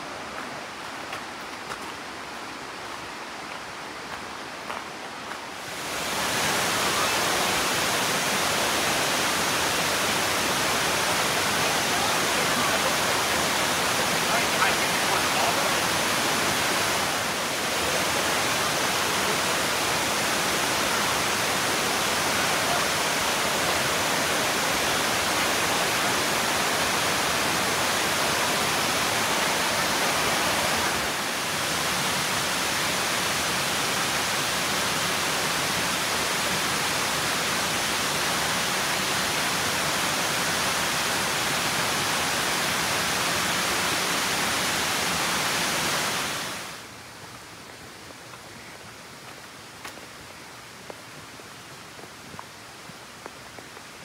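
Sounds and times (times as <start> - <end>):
waterfall rushing: 5.4 - 54.0.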